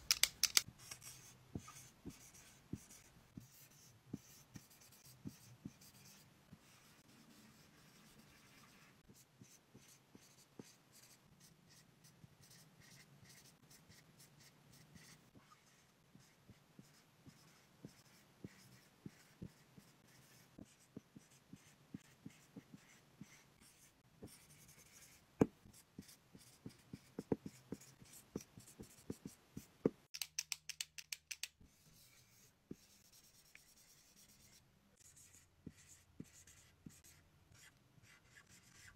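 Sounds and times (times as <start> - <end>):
marker writing on whiteboard: 0.1 - 30.0, 31.6 - 38.9.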